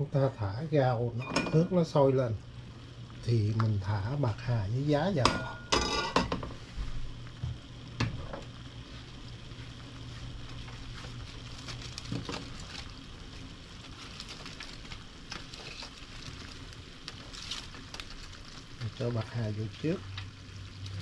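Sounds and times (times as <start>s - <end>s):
soup simmering and hissing: 0.0s - 21.0s.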